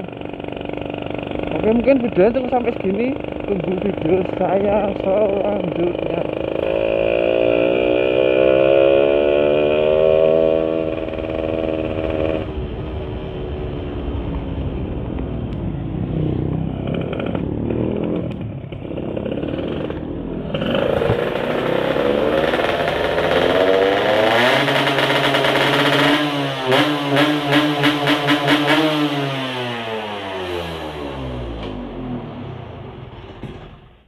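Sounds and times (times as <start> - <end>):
two-stroke motorcycle engine revving: 0.0 - 12.8, 16.2 - 33.6.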